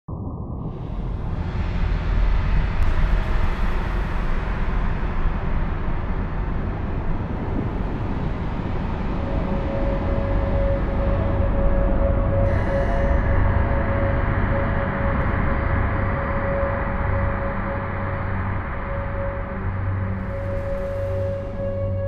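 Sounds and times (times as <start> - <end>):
dense low rumbling noise: 0.1 - 22.0
steady droning tone: 0.1 - 22.0.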